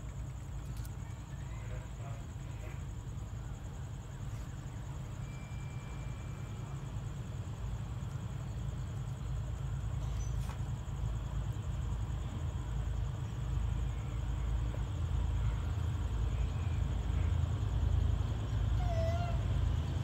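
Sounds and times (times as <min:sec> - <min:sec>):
high insect trill: 0:00.0 - 0:20.0.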